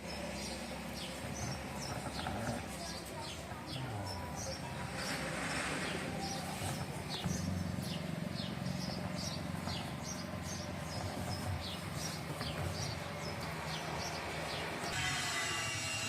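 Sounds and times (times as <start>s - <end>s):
bird chirping: 0.0s - 15.1s.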